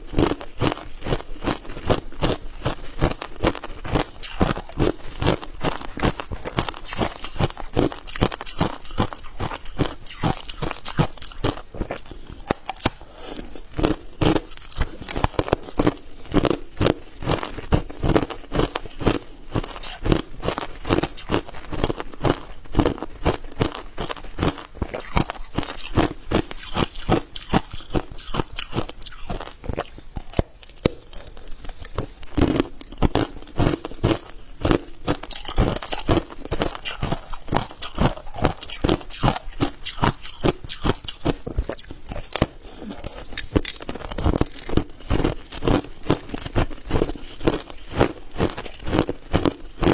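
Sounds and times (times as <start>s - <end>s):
ice cubes being chewed: 0.1s - 49.9s.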